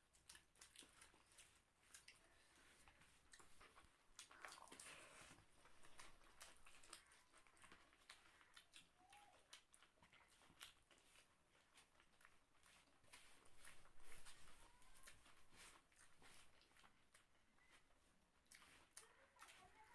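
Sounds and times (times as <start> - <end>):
chewing with soft smacks: 0.0 - 19.9.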